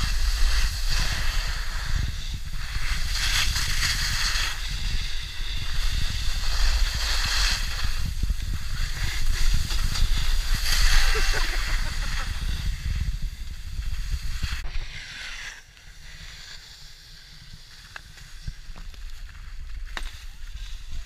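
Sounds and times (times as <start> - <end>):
skis scraping over snow: 0.0 - 21.0
wind rumble on microphone: 0.0 - 21.0.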